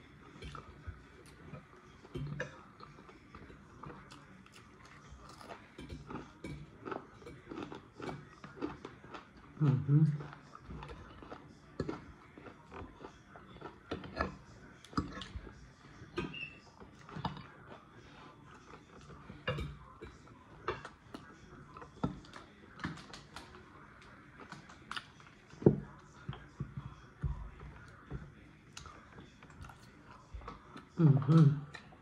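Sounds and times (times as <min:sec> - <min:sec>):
chewing with wet mouth clicks: 0:00.1 - 0:32.0.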